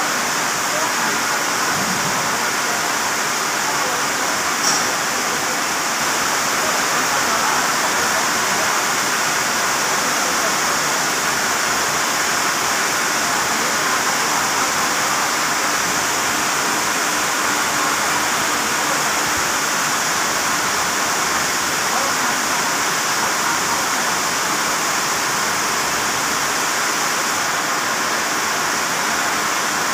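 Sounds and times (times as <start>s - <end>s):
heavy rain on a metal roof: 0.0s - 29.9s.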